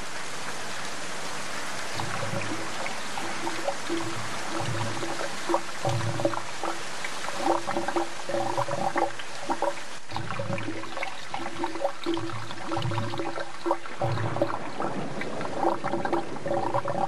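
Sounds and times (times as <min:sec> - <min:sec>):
pouring water rushing: 0:00.0 - 0:17.0.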